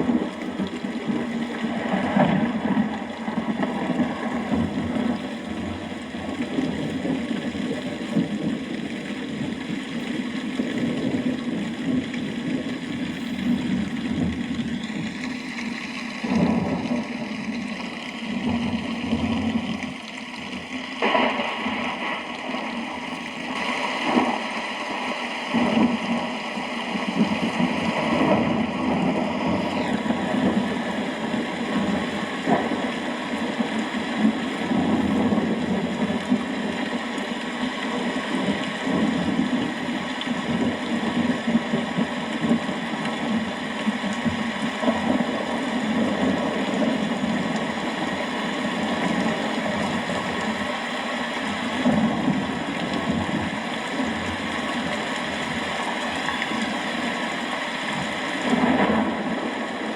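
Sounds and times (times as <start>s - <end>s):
low rumble of thunder: 0.0s - 57.2s
steady rain: 0.0s - 59.9s.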